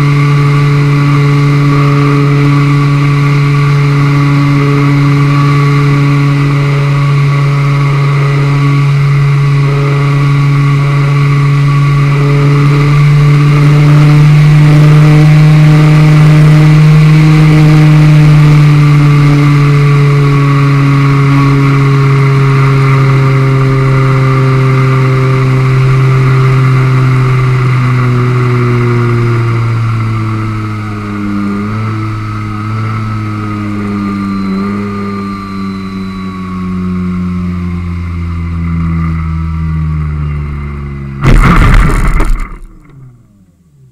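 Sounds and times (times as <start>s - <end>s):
model plane motor and propeller: 0.0s - 40.9s.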